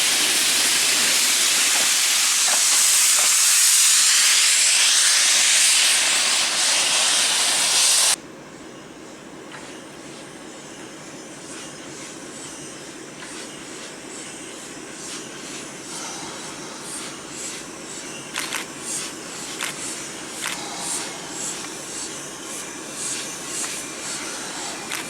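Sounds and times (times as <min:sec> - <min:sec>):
train running noise: 0:00.0 - 0:25.0.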